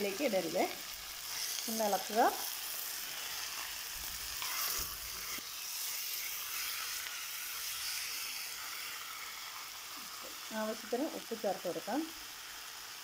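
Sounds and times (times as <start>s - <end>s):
pork sizzling in hot oil: 0.0s - 13.0s.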